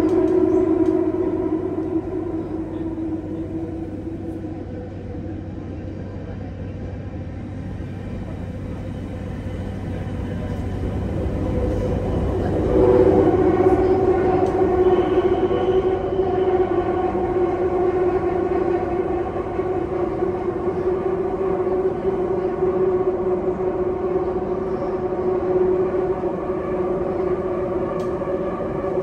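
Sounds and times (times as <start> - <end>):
steady pitched hum: 0.0 - 29.0
train rumbling: 0.0 - 29.0.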